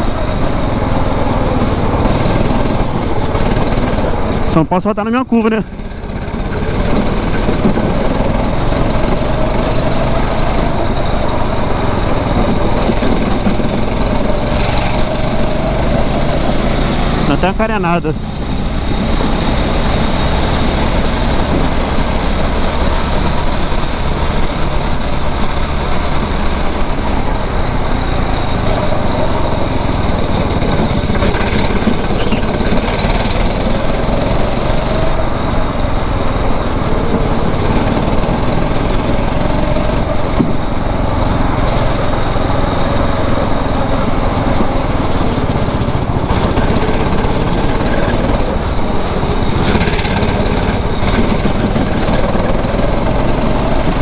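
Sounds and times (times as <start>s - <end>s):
dense rushing noise: 0.0s - 54.0s
kart engine running: 0.0s - 54.0s.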